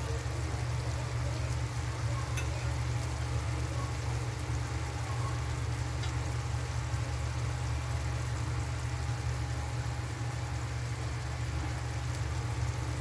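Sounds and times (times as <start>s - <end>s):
rice bubbling and sizzling: 0.0s - 13.0s.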